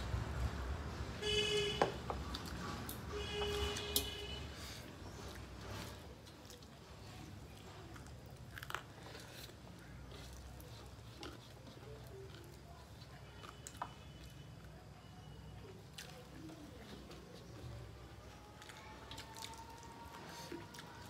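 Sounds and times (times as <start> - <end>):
fingers mixing food on metal plates: 1.8 - 21.0
chewing: 2.2 - 21.0.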